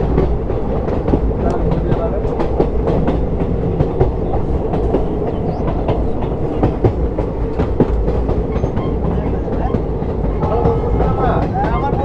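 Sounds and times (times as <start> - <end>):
train rumble: 0.0 - 12.0
wheels clattering on rails: 0.0 - 12.0.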